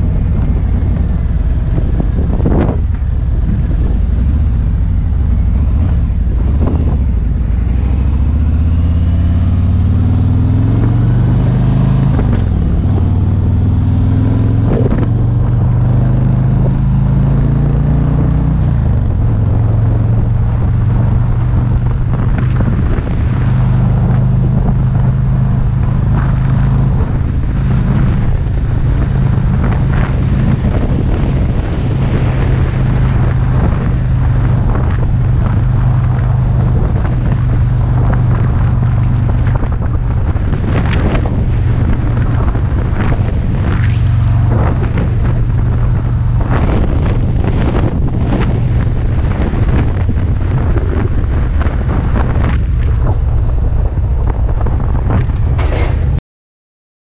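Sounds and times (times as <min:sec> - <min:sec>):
motorcycle engine cruising: 0:00.0 - 0:56.2
wind buffeting microphone: 0:00.0 - 0:56.2.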